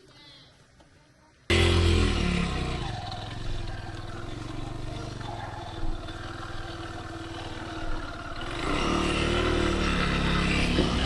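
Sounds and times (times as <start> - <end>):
motorcycle engine revving: 1.5 - 11.0.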